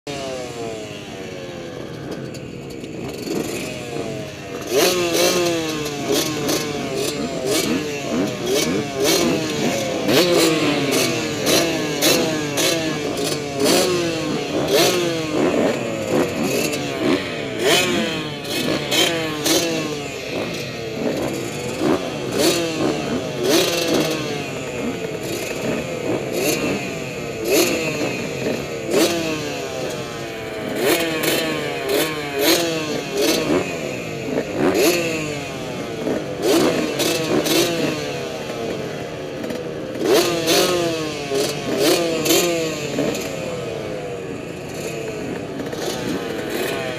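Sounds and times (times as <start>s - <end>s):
motocross bike engine revving: 0.1s - 46.9s.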